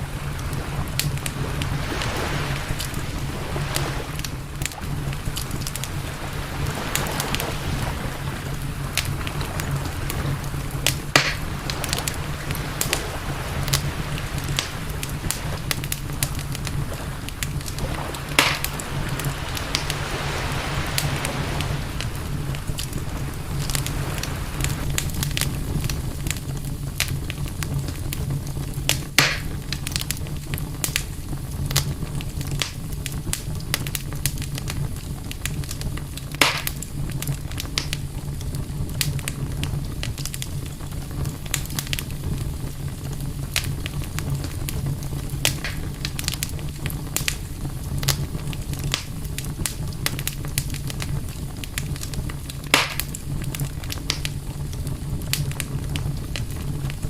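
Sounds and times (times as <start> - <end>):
campfire crackling: 0.0 - 57.0
low rumble: 0.0 - 57.0.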